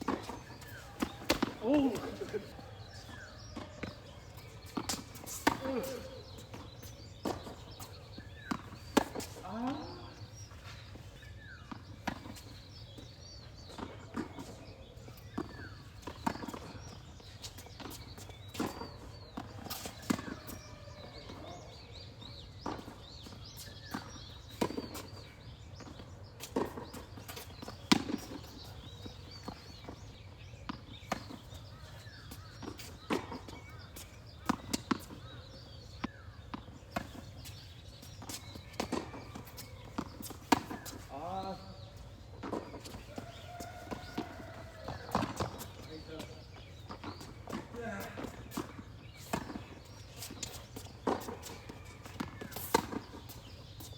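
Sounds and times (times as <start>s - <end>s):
tennis ball bounces: 0.0s - 10.8s, 11.4s - 53.9s.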